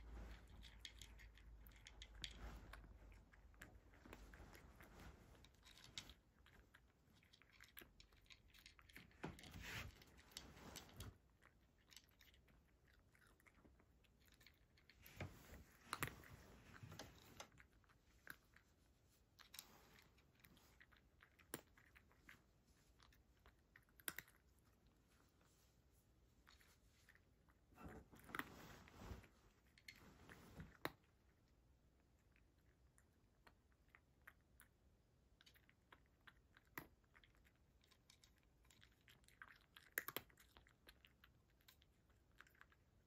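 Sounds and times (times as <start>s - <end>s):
cat crunching dry kibble: 0.1s - 25.3s, 32.3s - 43.0s.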